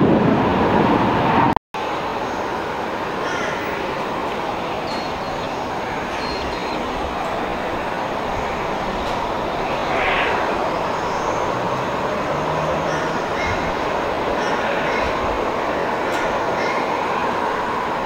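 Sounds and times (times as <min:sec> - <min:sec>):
distant jet engine roar: 0:00.0 - 0:18.0.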